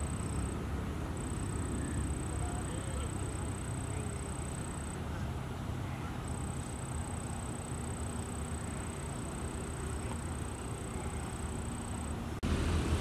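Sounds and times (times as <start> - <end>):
thin high-pitched whine: 0.0 - 12.4
outdoor background rumble: 0.0 - 13.0.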